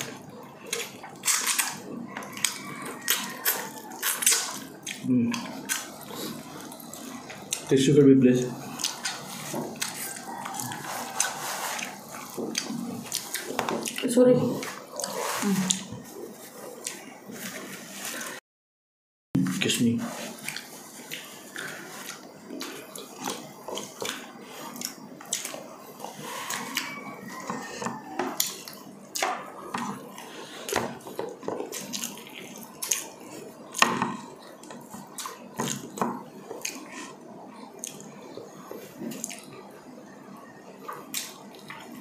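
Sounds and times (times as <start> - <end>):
wet chewing and lip-smacking: 0.0 - 7.7, 8.6 - 15.9, 20.4 - 39.7, 40.8 - 42.0.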